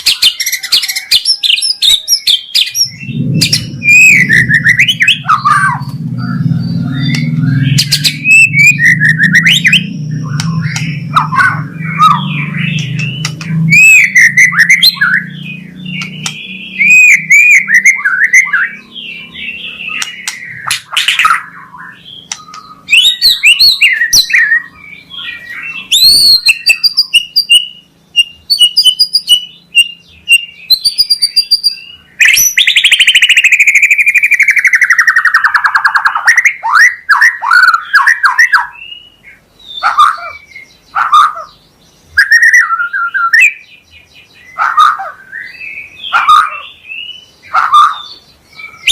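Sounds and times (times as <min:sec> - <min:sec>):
bird singing whistles and chatter: 0:00.0 - 0:48.9.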